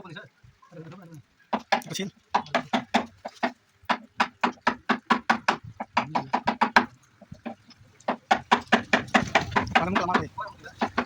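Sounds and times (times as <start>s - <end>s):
rapid hammering on wood: 1.5s - 11.0s.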